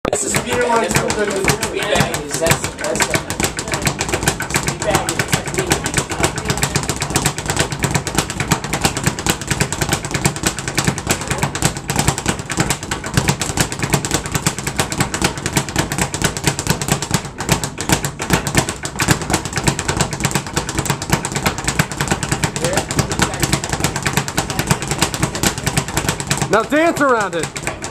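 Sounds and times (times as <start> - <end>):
speed bag rattling: 0.1 - 27.9.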